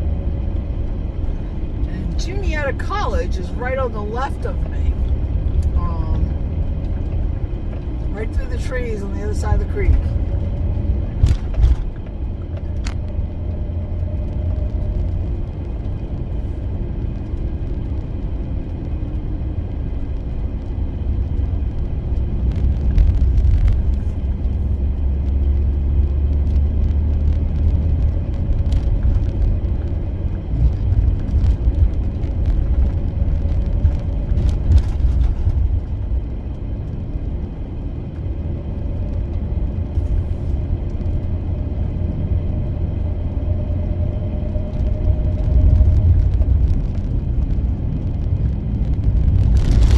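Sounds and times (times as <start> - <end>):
van engine and tyres rumbling: 0.0 - 49.9.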